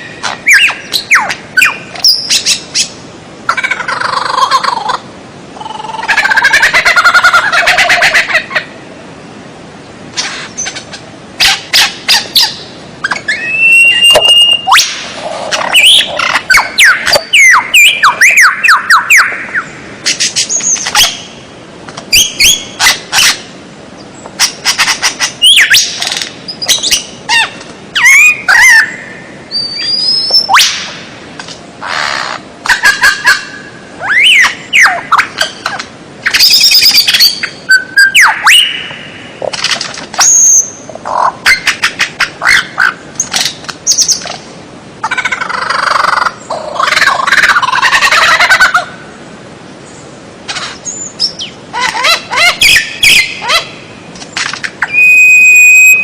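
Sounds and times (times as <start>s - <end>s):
songbird singing: 0.0s - 31.2s, 31.8s - 56.0s.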